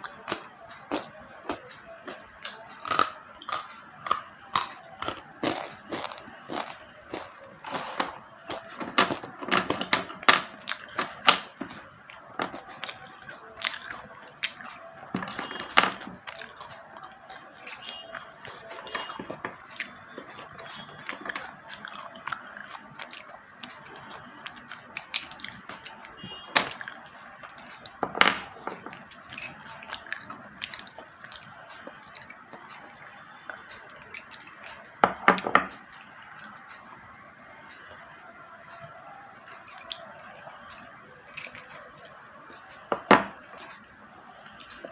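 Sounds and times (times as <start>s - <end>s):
crunching snaps of biting: 0.0s - 36.6s
grinding chewing: 0.0s - 36.9s, 38.6s - 44.9s.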